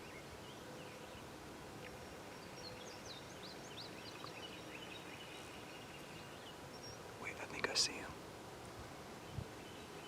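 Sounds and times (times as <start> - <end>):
faint birds chirping: 0.0 - 10.0
outdoor background hiss: 0.0 - 10.0.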